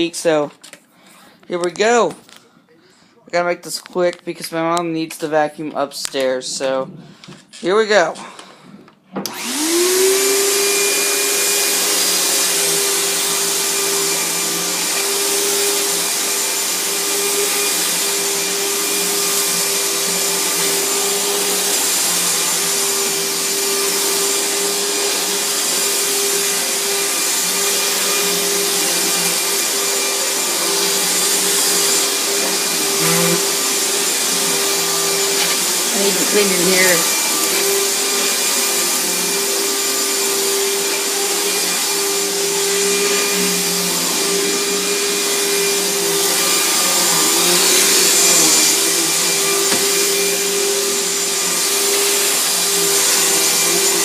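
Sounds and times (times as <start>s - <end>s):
vacuum cleaner motor whine: 9.2s - 54.0s.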